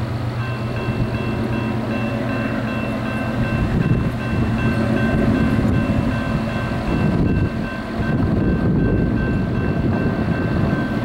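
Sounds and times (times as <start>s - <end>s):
diesel locomotive engine rumble: 0.0s - 11.0s
locomotive bell ringing: 0.0s - 11.0s.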